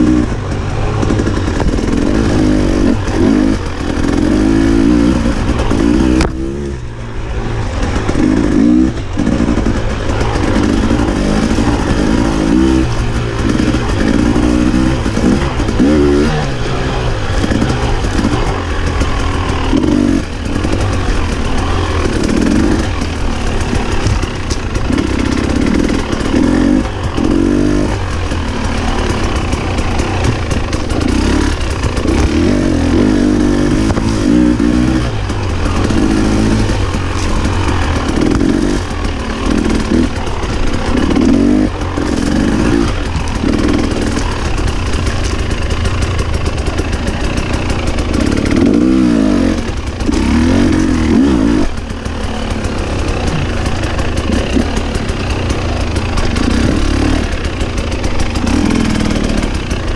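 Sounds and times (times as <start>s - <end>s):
motorcycle engine revving: 0.0s - 59.9s
steady rushing noise: 0.0s - 59.9s.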